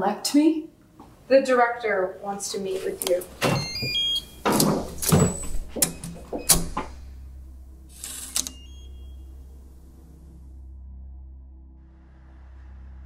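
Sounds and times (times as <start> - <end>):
low steady hum: 0.7 - 13.0.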